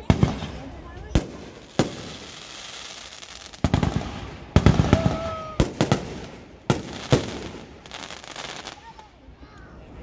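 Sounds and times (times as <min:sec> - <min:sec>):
firecrackers banging and crackling: 0:00.0 - 0:09.1.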